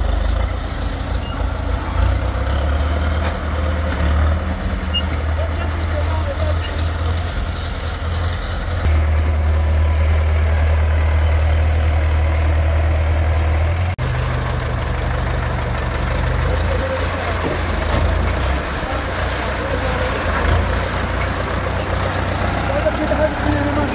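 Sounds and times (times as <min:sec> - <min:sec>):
heavy vehicle engine running: 0:00.0 - 0:23.9.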